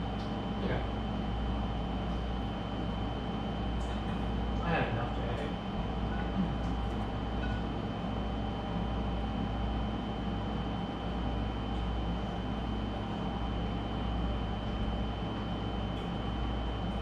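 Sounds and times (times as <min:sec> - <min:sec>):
mechanical hum and low rumble: 0:00.0 - 0:17.0.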